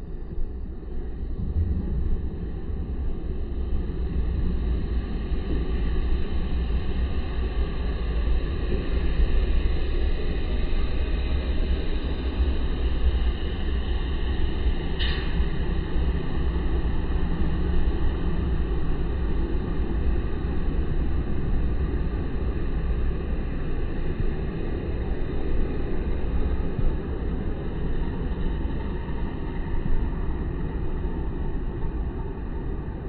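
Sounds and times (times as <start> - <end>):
low rumbling background noise: 0.0 - 33.0.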